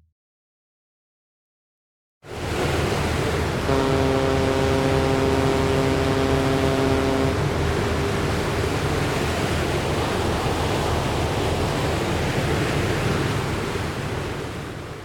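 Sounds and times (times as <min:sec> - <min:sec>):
sea water rushing: 0:02.3 - 0:15.0.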